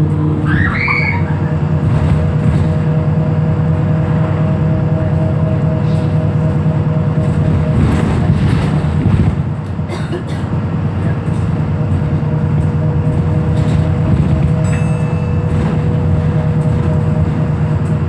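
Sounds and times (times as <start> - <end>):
bus diesel engine droning: 0.0 - 18.0
road noise: 0.0 - 18.0.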